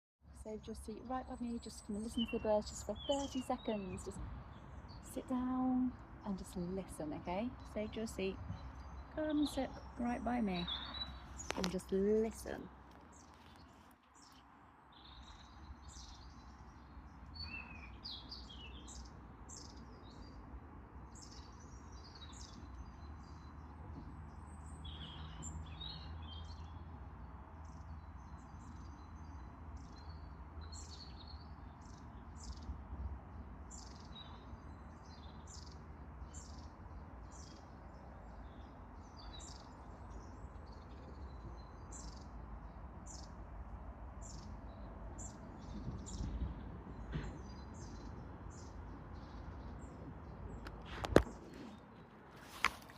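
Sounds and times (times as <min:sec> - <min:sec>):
songbirds singing and chirping: 0:00.4 - 0:52.9.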